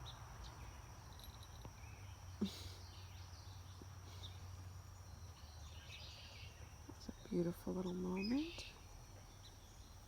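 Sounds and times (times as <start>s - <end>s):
bird chirps: 0.0s - 10.0s
high insect tone: 0.0s - 10.0s.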